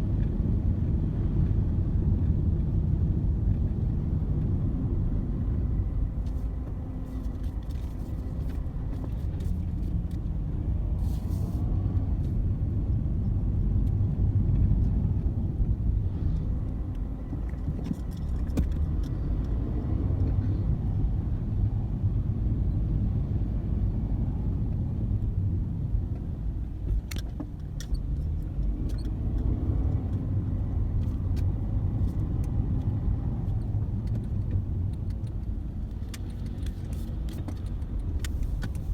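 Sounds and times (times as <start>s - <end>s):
motor vehicles rumbling: 0.0s - 38.9s.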